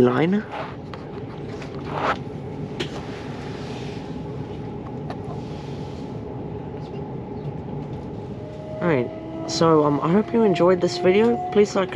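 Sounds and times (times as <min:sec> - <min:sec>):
train running on track: 0:00.0 - 0:11.9.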